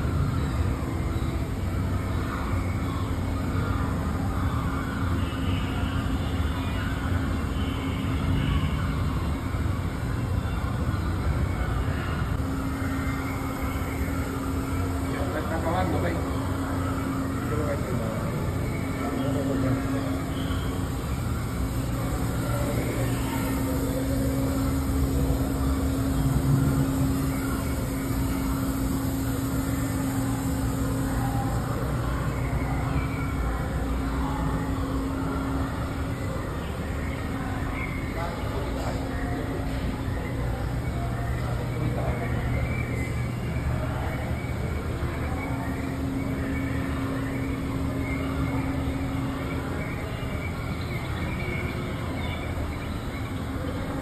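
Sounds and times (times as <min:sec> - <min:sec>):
low rumbling with faint hum: 0:00.0 - 0:54.0.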